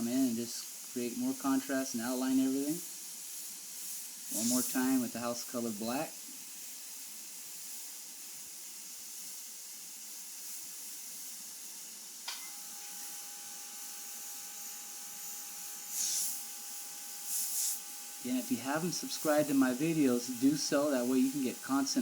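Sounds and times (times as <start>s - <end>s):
airbrush hissing: 0.0s - 22.0s.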